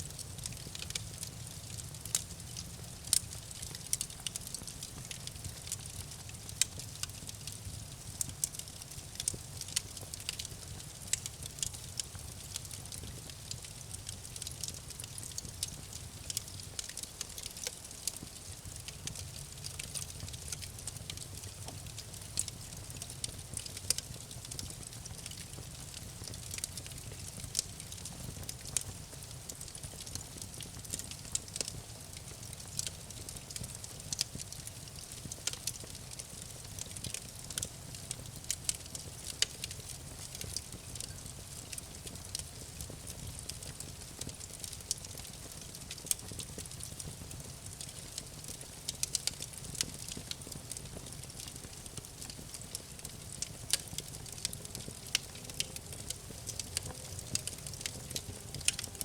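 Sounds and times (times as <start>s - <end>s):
burning wood crackling: 0.0s - 59.0s
low rumble of flames: 0.0s - 59.0s.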